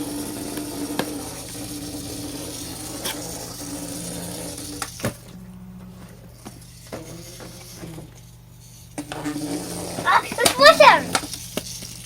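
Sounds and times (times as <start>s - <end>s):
toy motor whirring: 0.0s - 12.0s.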